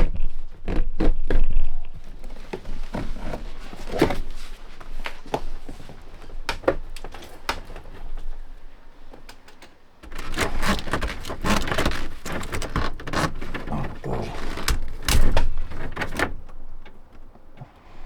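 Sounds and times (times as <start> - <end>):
knocks and clicks in boat hull: 0.2 - 17.7
clattering and scraping: 1.8 - 17.7.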